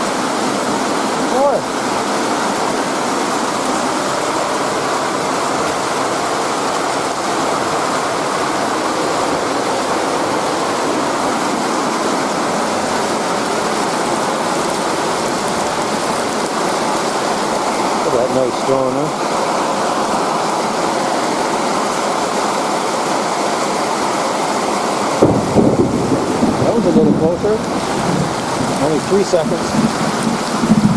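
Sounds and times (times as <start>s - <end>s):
steady rain hiss: 0.0s - 30.9s.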